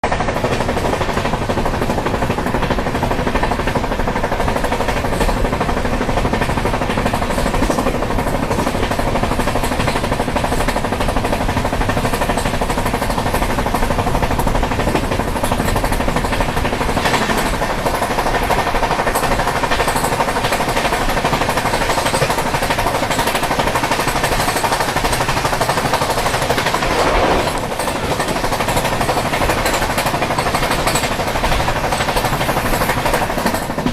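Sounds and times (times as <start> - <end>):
train wheels clattering on rails: 0.0 - 33.9.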